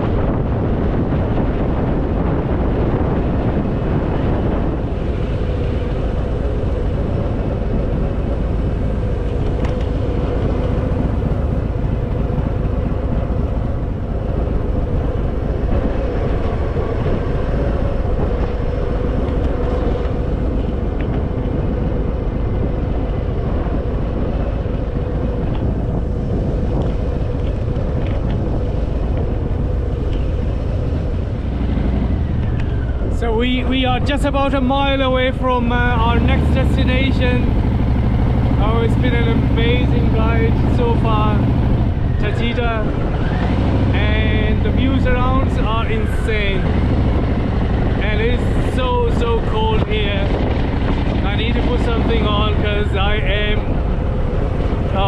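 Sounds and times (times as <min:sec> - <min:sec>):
motorcycle engine running: 0:00.0 - 0:34.4, 0:35.7 - 0:55.0
wind rushing over microphone: 0:00.0 - 0:55.0.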